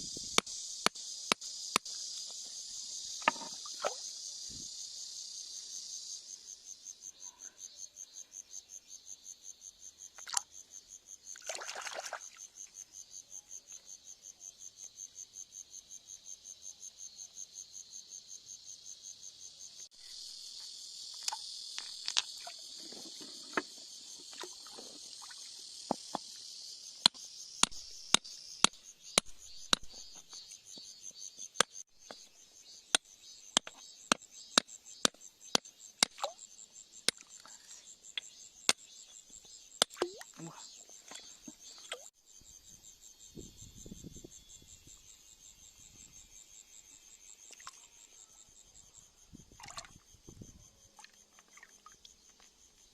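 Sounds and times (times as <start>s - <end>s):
insects chirping: 0.0s - 52.9s.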